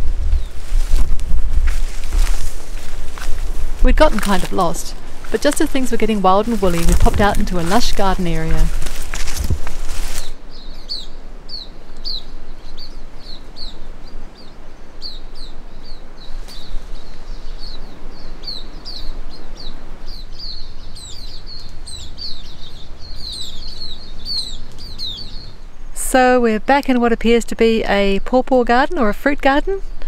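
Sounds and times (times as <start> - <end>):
small birds chirping: 0.2 - 0.8, 2.1 - 26.2.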